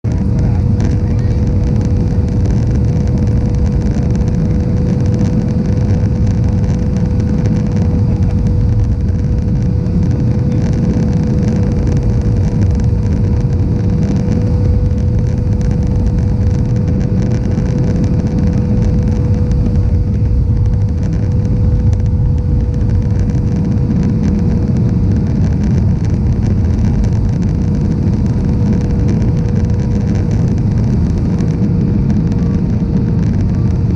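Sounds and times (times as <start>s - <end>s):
airliner engines and airflow rumble: 0.0s - 33.9s.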